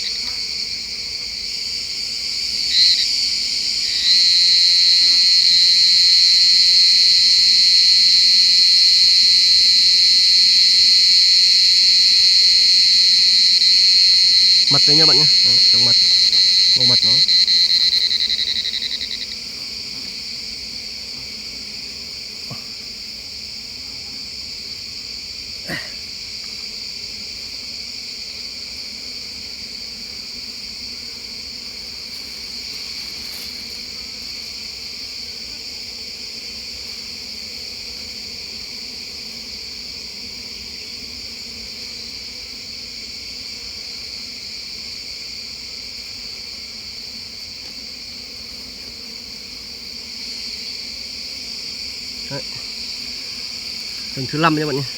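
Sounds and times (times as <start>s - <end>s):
forest insects trilling: 0.0s - 54.9s.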